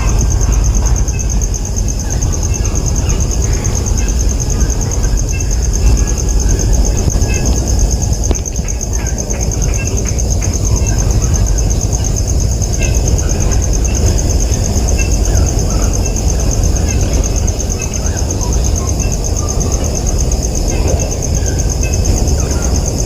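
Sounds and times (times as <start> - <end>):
fast-pulsing insect drone: 0.0 - 23.0.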